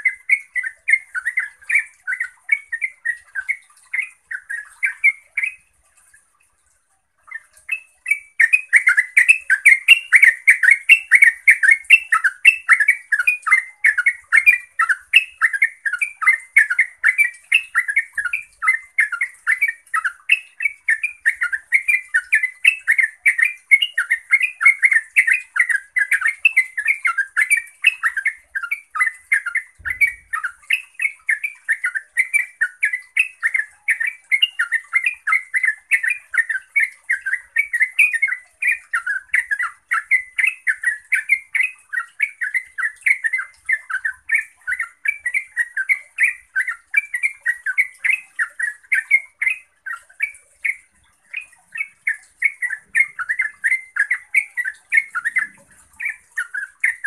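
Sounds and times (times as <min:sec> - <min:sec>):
bird singing rapid chattering notes: 0:00.0 - 0:05.8, 0:07.2 - 0:57.0.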